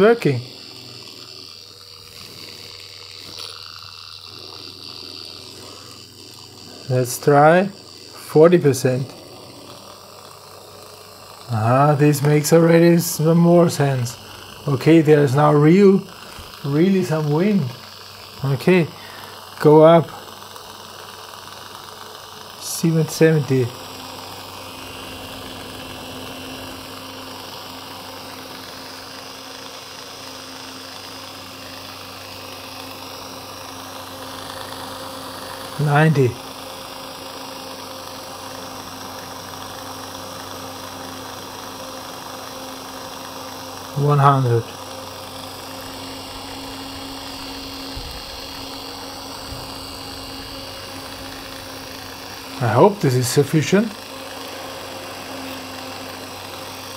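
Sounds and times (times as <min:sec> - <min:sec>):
electric fan motor hum: 0:00.0 - 0:56.9.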